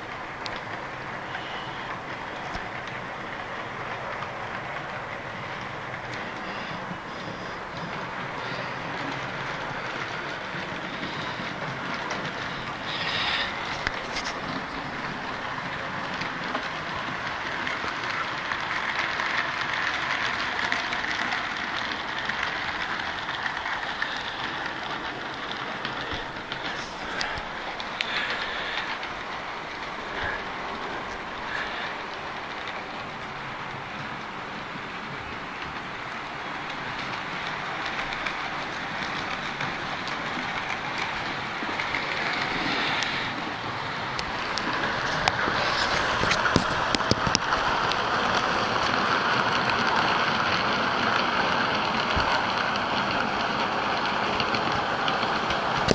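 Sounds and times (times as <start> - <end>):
model train whirring: 0.0 - 55.9
wheels clicking on rails: 0.0 - 55.9.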